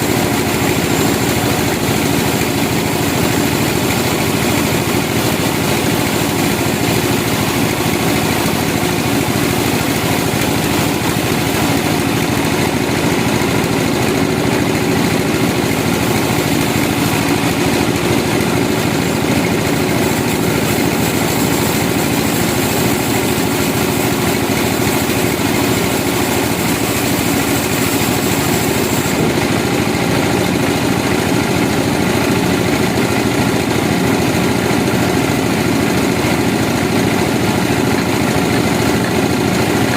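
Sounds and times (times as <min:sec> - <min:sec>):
sawmill engine droning: 0:00.0 - 0:39.9.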